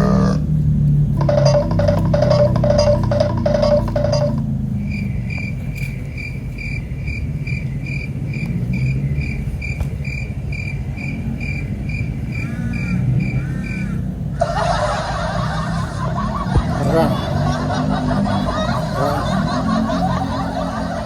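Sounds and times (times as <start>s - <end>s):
cricket chirping: 1.1s - 21.0s.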